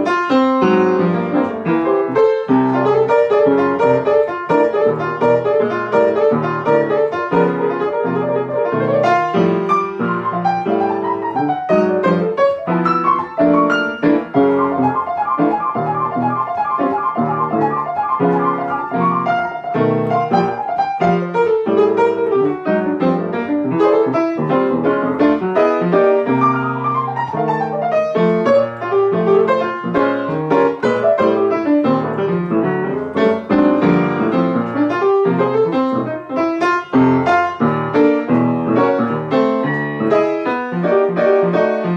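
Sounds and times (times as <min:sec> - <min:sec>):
solo jazz piano: 0:00.0 - 0:41.9.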